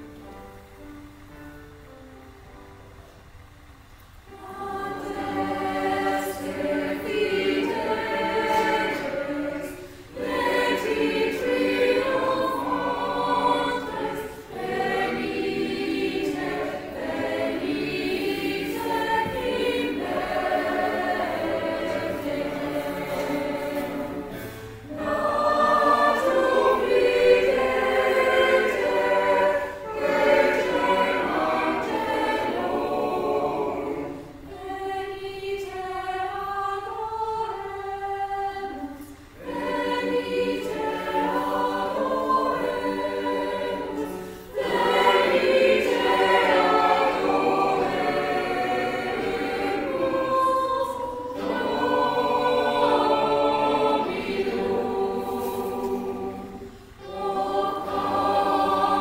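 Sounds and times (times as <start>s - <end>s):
mixed choir singing: 4.2s - 59.0s.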